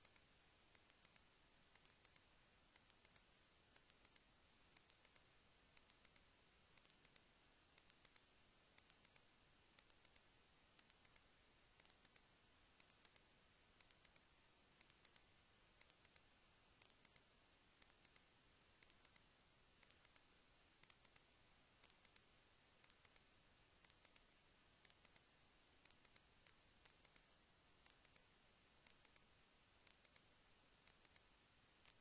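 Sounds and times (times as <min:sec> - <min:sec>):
faint sharp clicks: 0:00.0 - 0:32.0
low steady hiss: 0:00.0 - 0:32.0.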